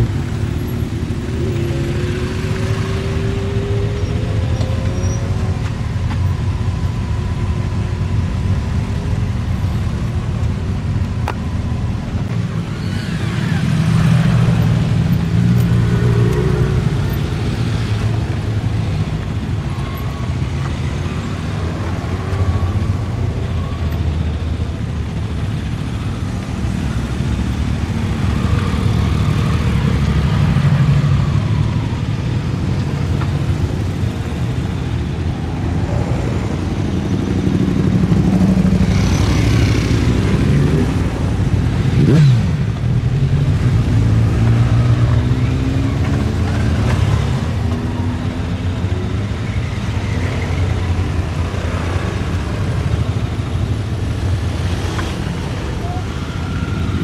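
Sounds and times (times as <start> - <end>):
motorcycle engines passing: 0.0 - 57.0.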